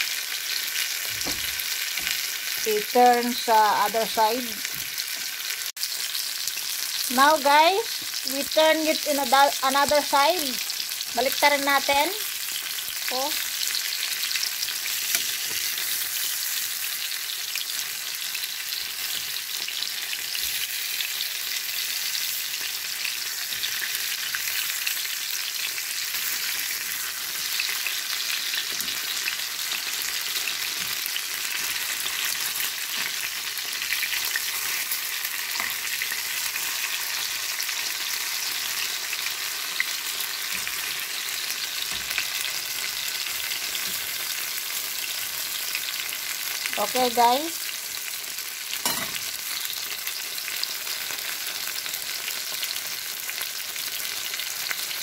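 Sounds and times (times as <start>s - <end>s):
shrimp sizzling in oil: 0.0s - 55.0s.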